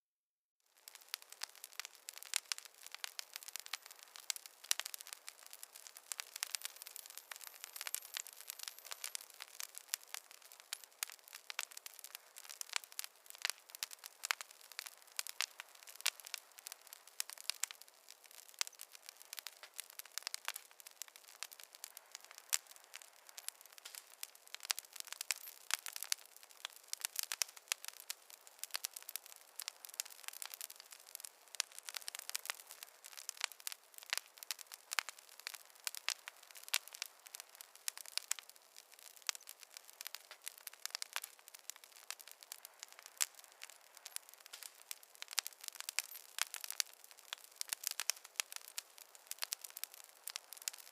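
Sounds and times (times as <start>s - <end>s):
wood fire crackling: 0.7s - 50.9s.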